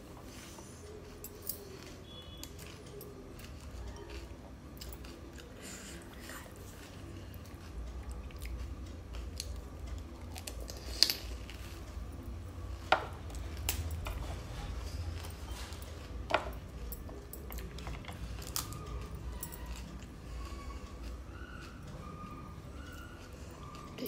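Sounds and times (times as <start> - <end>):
crunchy food being chewed: 0.3 - 24.0.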